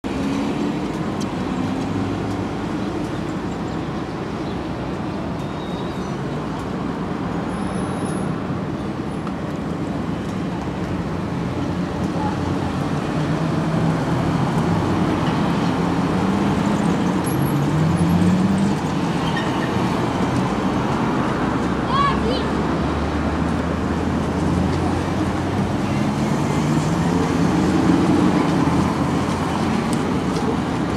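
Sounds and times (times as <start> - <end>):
cars driving past: 0.0 - 30.9.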